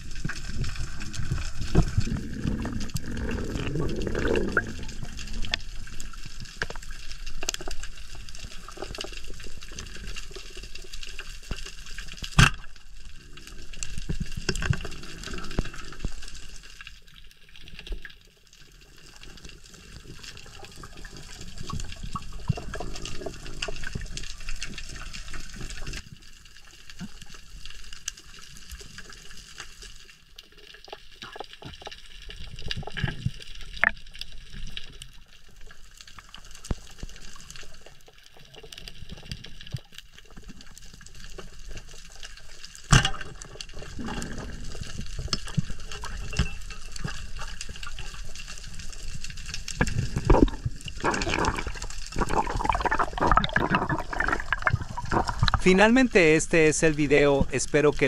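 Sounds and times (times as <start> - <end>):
clicks and crackles: 0.0 - 58.0
underwater water movement: 0.0 - 58.0.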